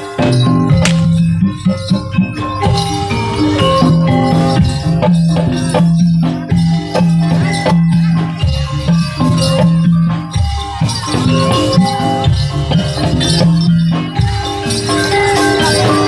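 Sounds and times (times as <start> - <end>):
drum strokes: 0.0 - 14.8
gamelan metal keys and gongs: 0.0 - 16.0
jingling rattle percussion: 0.0 - 16.0.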